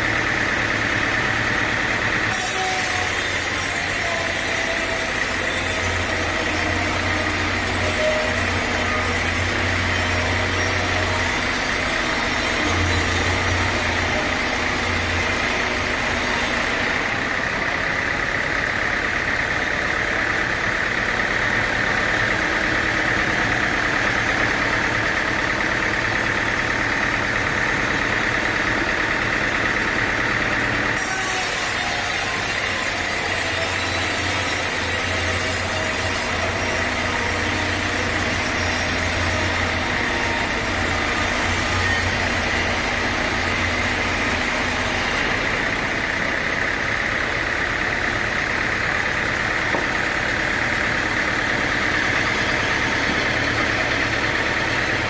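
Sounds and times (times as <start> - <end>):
sawmill engine noise: 0.0 - 55.0
steady high machine whine: 0.0 - 55.0.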